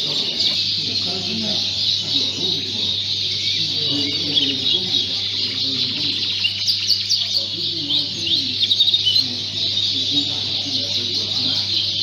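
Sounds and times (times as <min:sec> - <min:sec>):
canaries singing and chirping: 0:00.0 - 0:12.0
murmur of people talking: 0:00.0 - 0:12.0.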